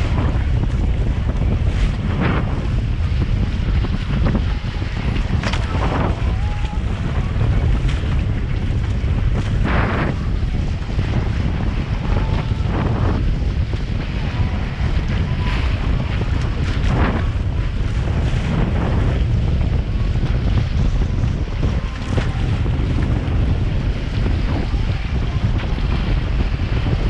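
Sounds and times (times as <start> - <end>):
water rushing along hulls: 0.0 - 27.0
wind noise on microphone: 0.0 - 27.0.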